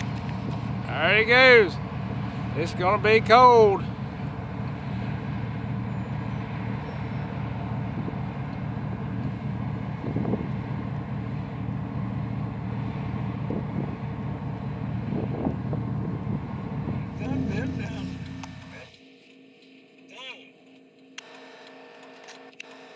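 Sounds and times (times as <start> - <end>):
vehicle engine driving: 0.0 - 19.0.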